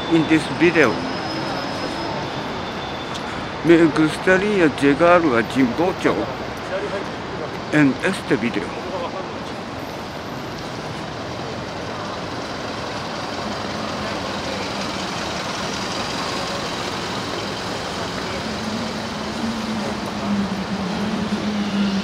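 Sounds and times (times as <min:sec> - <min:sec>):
city street traffic: 0:00.0 - 0:22.0
vehicle engine hum: 0:00.0 - 0:22.0.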